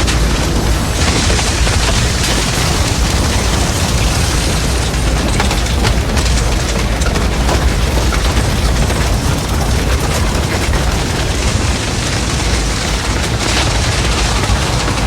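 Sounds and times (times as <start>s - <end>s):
deep rumble of flames: 0.0s - 15.0s
fire crackling and snapping: 0.0s - 15.0s.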